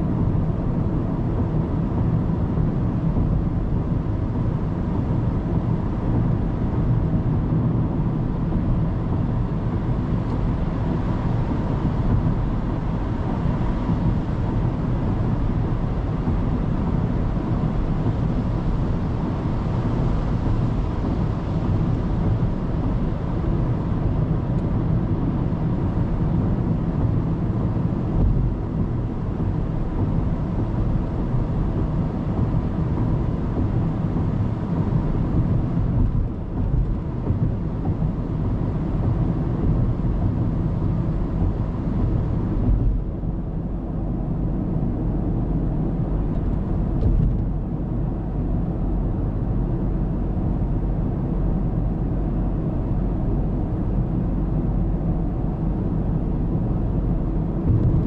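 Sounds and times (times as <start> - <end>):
car road noise from inside: 0.0 - 58.0.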